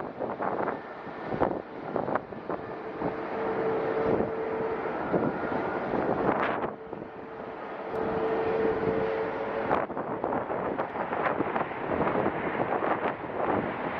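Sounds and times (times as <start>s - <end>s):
gusty wind buffeting microphone: 0.0s - 13.9s
jet engines steady tone: 0.0s - 13.9s.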